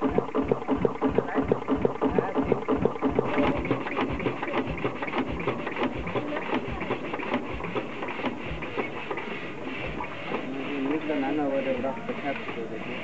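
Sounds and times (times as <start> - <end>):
valve gear clatter: 0.0 - 12.7
stationary engine running slowly: 0.0 - 13.0.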